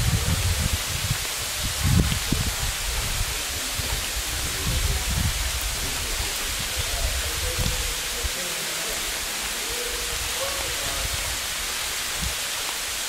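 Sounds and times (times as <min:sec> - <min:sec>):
wind buffeting microphone: 0:00.0 - 0:12.6
steady outdoor hiss: 0:00.0 - 0:13.0.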